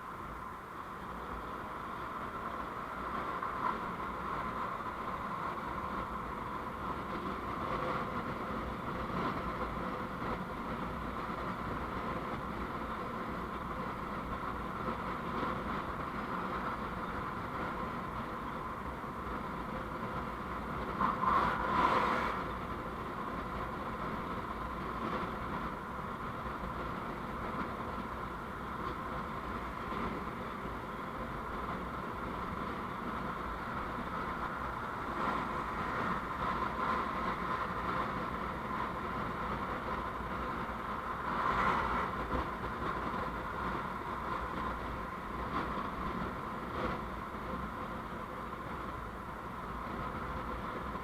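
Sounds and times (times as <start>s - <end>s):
vehicle driving on road: 0.0s - 51.0s.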